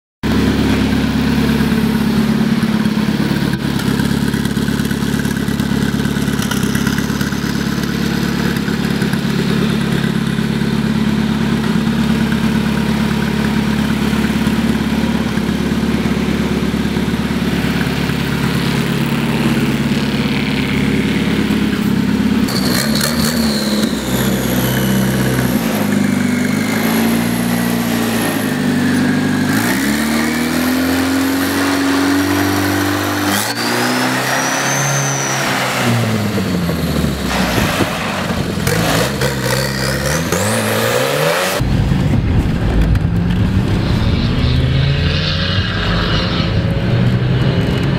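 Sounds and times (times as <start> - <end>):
tractor engine revving: 0.2 - 47.9.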